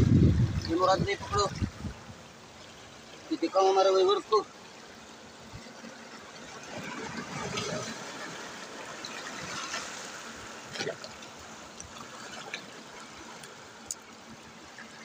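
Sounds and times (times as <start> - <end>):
small waves breaking: 0.0 - 15.0
water trickling over rocks: 0.0 - 15.0.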